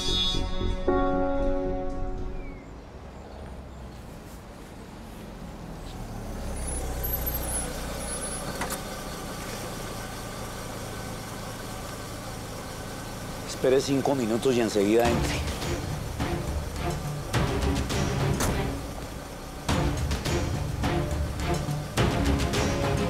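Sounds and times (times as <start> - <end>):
rumbling vehicle traffic: 1.2 - 23.0.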